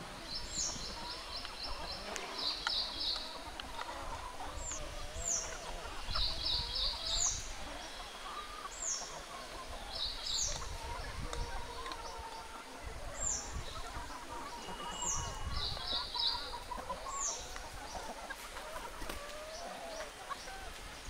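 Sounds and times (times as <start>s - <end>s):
chickens clucking softly: 0.0s - 21.0s.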